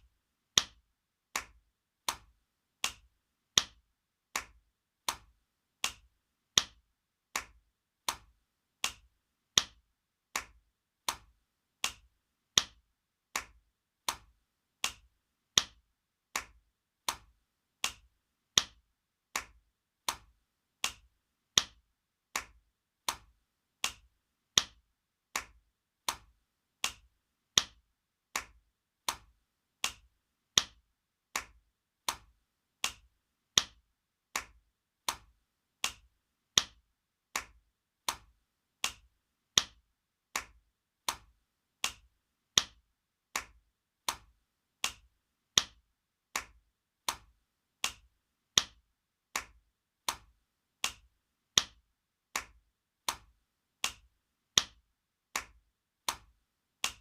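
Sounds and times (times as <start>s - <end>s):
hand slapping bare skin: 0.6s - 57.0s.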